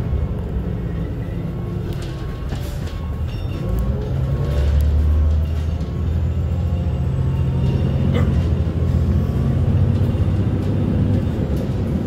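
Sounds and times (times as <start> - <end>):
bus diesel engine accelerating: 0.0 - 12.0.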